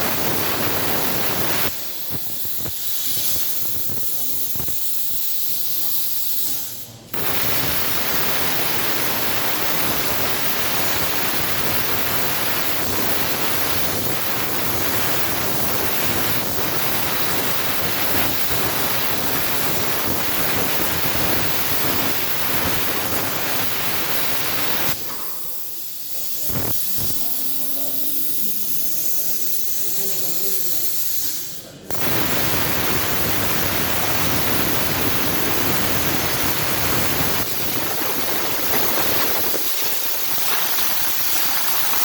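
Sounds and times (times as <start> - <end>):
plasma torch cutting steel: 0.0 - 42.0.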